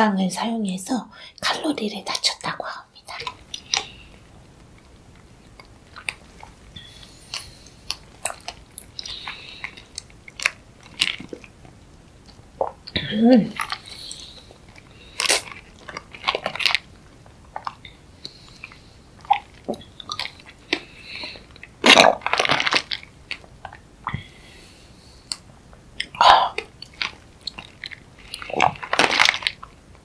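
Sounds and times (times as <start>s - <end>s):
biting and chewing: 3.1s - 12.9s, 13.6s - 24.2s, 25.3s - 30.0s.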